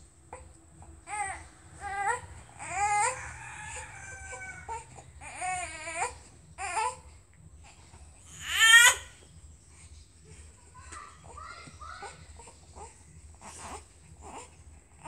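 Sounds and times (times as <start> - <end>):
infant crying: 0.3 - 9.1, 11.2 - 15.0.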